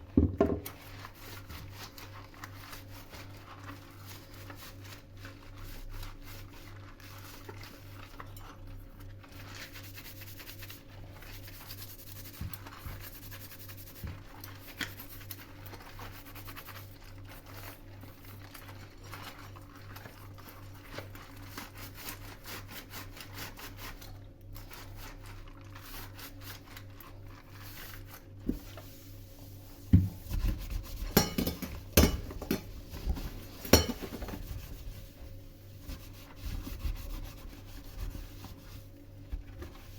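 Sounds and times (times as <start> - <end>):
fine scraping in kitchen: 0.0 - 39.9.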